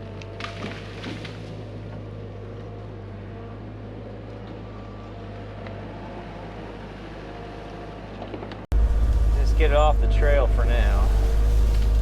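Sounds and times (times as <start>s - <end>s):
excavator diesel engine running: 1.5s - 12.0s.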